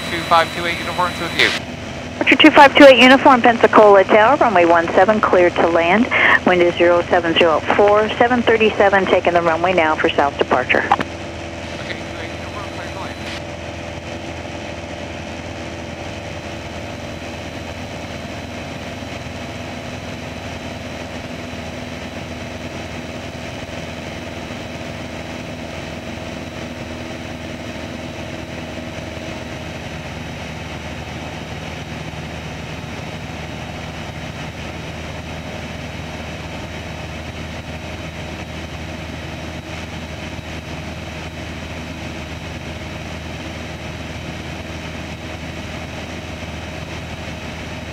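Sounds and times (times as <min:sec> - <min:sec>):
aircraft engine and propeller droning: 0:00.0 - 0:47.9.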